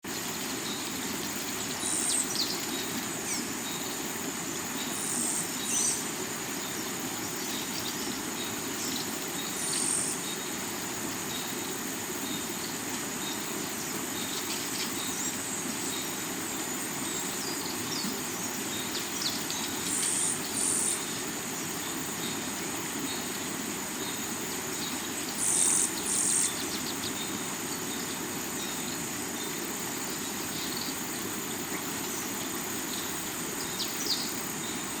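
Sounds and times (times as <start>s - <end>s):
crickets droning: 0.0s - 35.0s.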